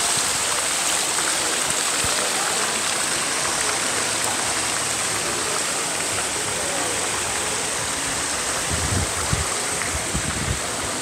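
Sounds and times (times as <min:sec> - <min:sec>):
water fountain splashing: 0:00.0 - 0:11.0.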